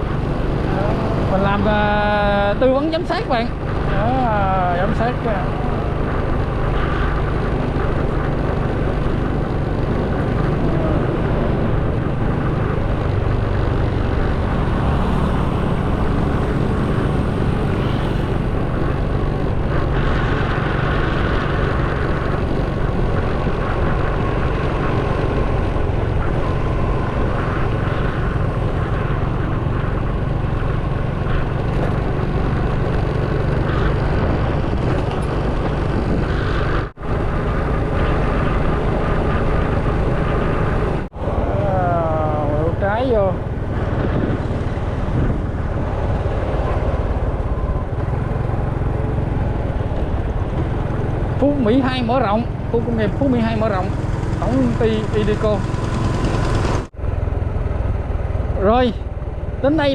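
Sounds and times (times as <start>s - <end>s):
motorcycle wind and engine noise: 0.0s - 59.9s.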